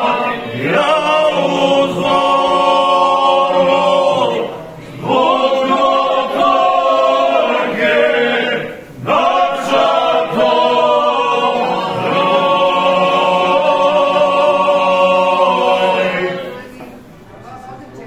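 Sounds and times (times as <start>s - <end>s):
men singing unaccompanied: 0.0s - 16.6s.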